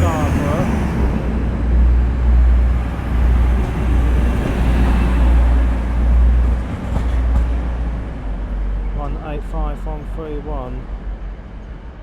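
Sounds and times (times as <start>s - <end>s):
diesel train engines rumbling: 0.0s - 12.0s.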